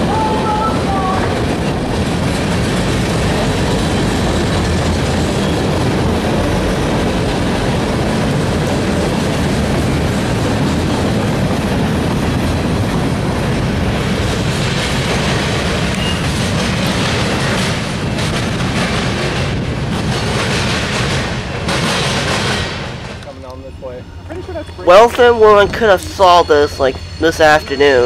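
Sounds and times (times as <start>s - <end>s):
steel wheels on rails: 0.0s - 28.0s.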